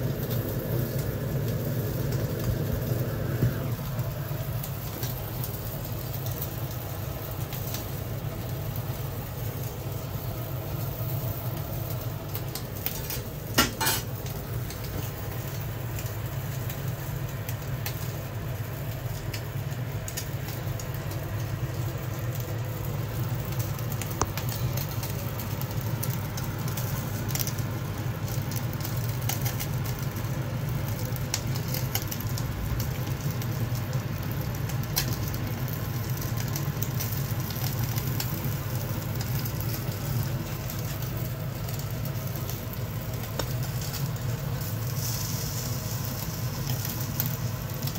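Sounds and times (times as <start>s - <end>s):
fish sizzling and crackling: 0.0s - 47.9s
gas burner low rumble: 0.0s - 47.9s.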